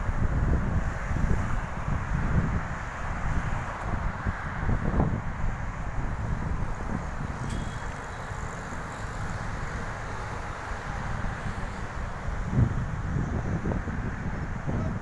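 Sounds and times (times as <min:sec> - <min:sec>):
low rumble of traffic: 0:00.0 - 0:15.0
wind buffeting microphone: 0:00.0 - 0:15.0.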